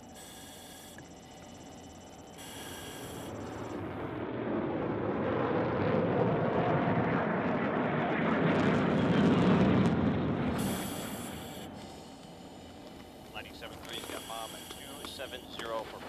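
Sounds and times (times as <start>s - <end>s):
jet fighter flying past: 2.3s - 16.0s.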